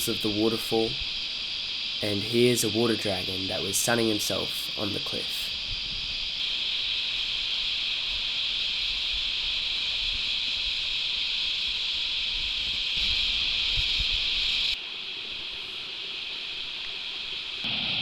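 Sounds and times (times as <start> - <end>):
cicada chorus: 0.0 - 18.0.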